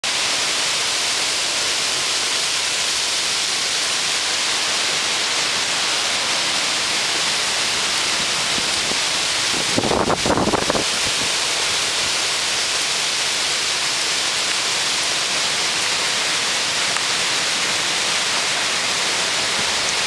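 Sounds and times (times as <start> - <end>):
wind through tree leaves: 0.0 - 20.0.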